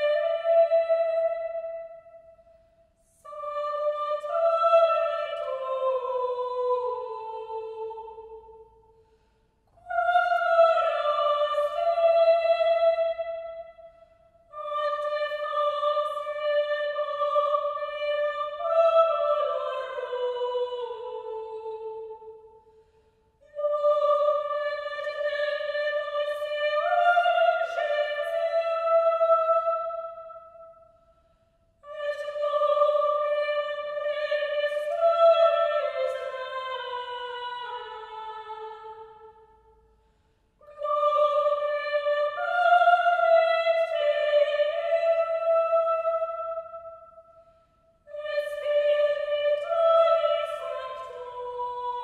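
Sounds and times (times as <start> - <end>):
high-voiced unaccompanied chant singing: 3.3 - 8.8, 9.8 - 13.9, 14.5 - 22.6, 23.4 - 30.8, 31.8 - 39.5, 40.6 - 47.1, 48.1 - 52.0.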